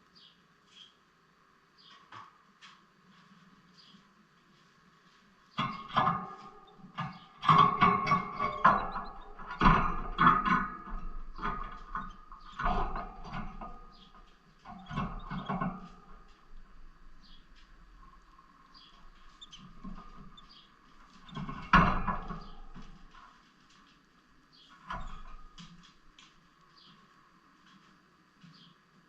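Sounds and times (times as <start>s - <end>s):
birds rattling in a cage: 5.1s - 28.8s.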